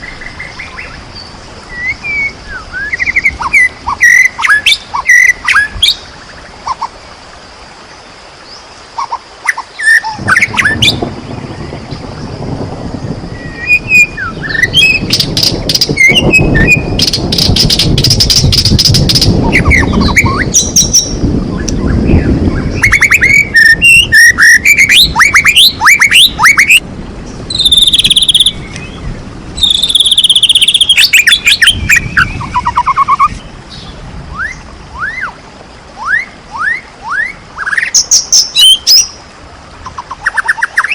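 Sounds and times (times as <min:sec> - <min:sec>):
songbird singing loudly: 0:00.0 - 0:06.9, 0:08.4 - 0:35.4, 0:36.0 - 0:39.2, 0:39.8 - 0:40.9.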